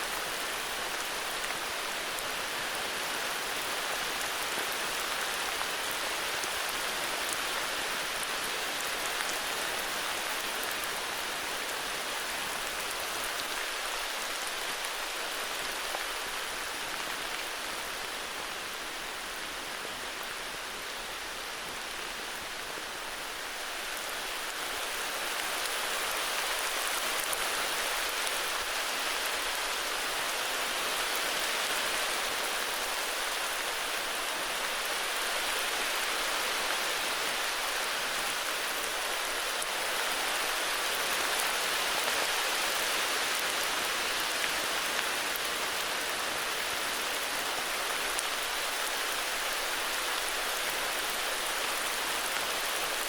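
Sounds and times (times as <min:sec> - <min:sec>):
heavy rain on leaves: 0:00.0 - 0:53.0.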